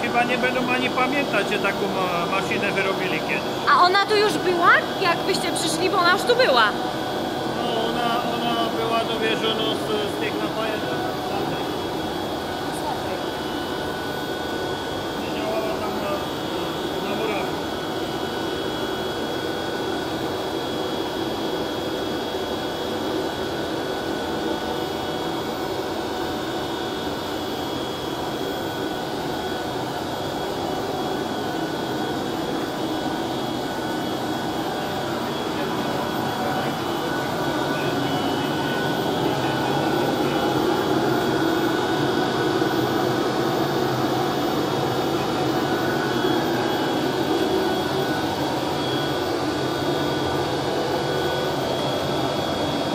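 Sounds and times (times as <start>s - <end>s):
constant whining tones: 0.0s - 21.4s, 22.2s - 52.9s
machine hum: 0.0s - 52.9s.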